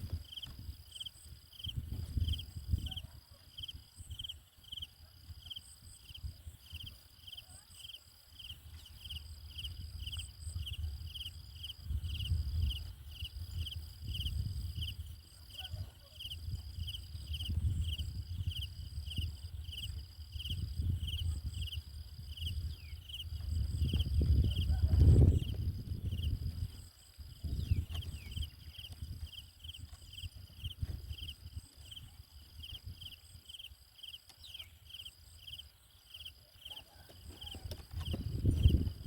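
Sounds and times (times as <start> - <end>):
high continuous insect buzz: 0.0 - 39.0
insect rhythmic chirping: 0.0 - 39.0.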